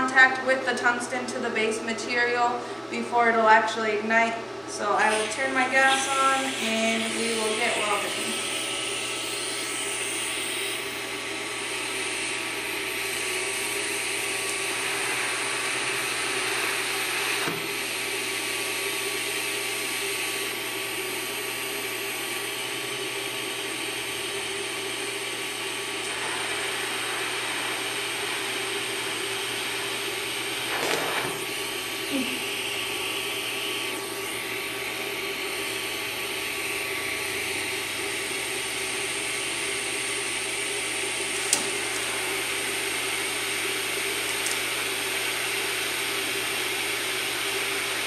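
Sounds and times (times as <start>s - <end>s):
welding gas hiss with hum: 5.0s - 48.0s.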